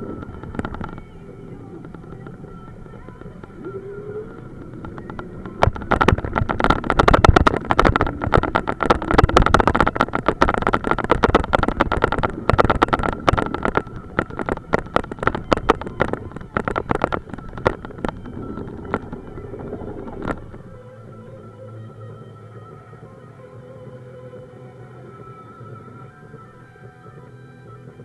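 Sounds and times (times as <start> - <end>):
wind buffeting microphone: 0.0 - 23.0
motorcycle engine whine: 0.0 - 28.0.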